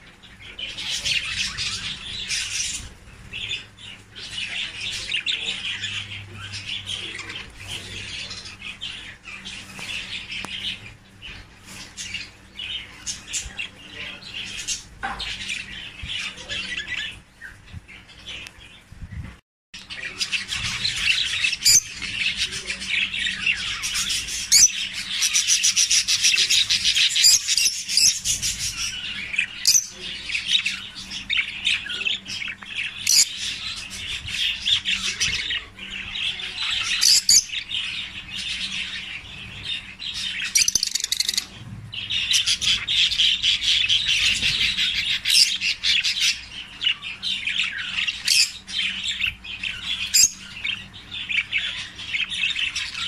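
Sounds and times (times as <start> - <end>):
lovebirds twittering: 0.0 - 53.0.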